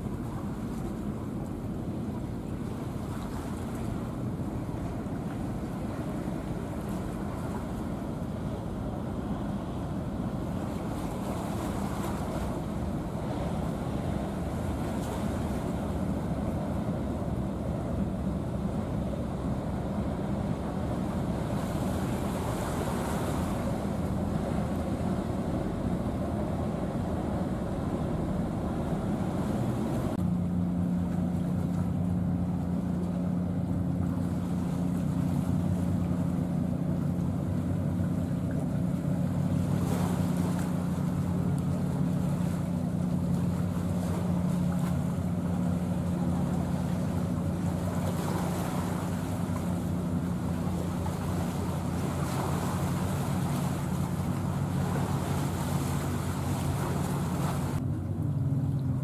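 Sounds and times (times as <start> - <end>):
boat engine drone: 0.0 - 59.0
water noise: 0.0 - 59.0
wind: 0.0 - 59.0.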